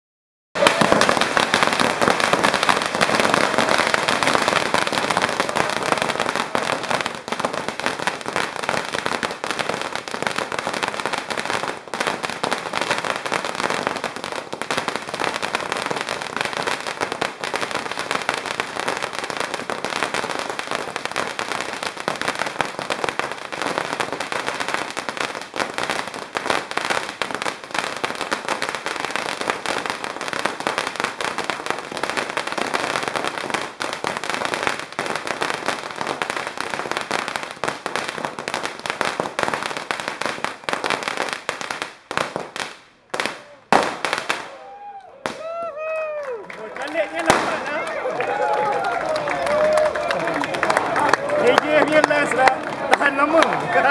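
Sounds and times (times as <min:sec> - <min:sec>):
firecrackers crackling: 0:00.6 - 0:53.9.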